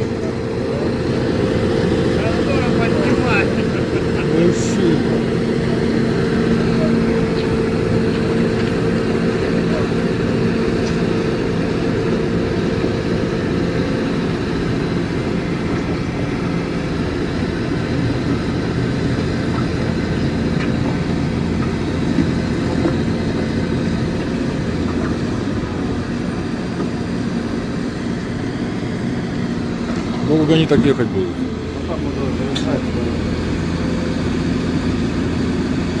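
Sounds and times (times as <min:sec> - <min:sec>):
truck engine running under load: 0:00.0 - 0:36.0.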